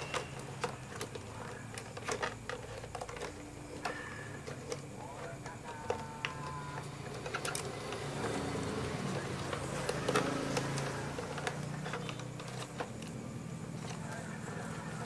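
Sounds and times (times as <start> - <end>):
plastic clicks and rattles: 0.0 - 15.0.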